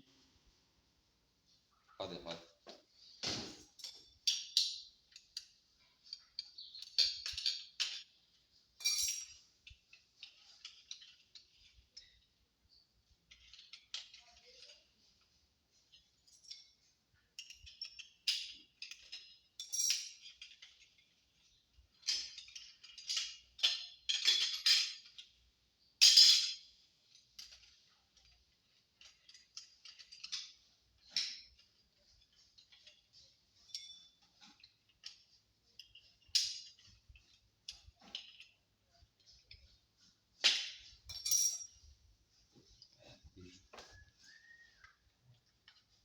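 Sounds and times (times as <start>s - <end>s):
metal tools clinking: 3.6s - 41.9s.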